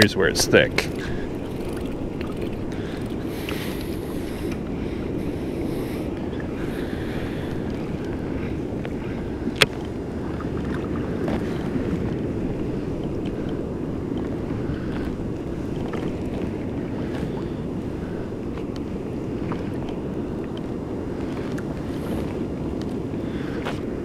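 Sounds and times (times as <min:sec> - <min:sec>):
water rushing around kayak: 0:00.0 - 0:24.0
wind buffeting microphone: 0:00.0 - 0:24.0.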